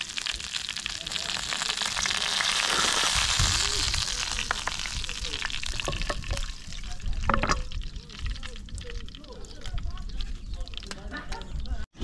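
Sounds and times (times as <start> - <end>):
oil sizzling in a frying pan: 0.0 - 11.1.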